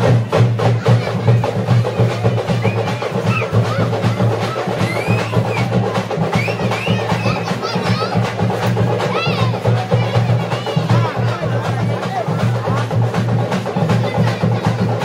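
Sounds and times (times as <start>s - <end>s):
frame drums beaten fast: 0.0s - 15.0s.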